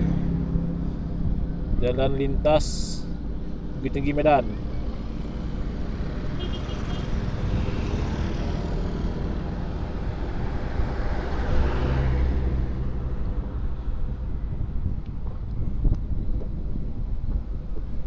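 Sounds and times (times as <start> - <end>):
highway traffic passing: 0.0 - 18.0.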